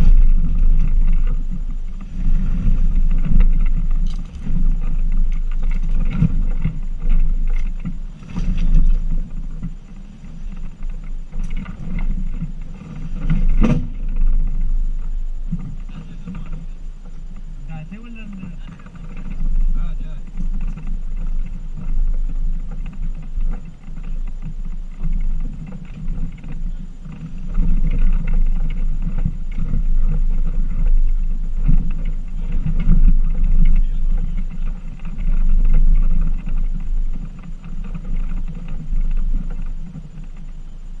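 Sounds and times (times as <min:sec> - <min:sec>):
off-road vehicle engine rumbling: 0:00.0 - 0:41.0.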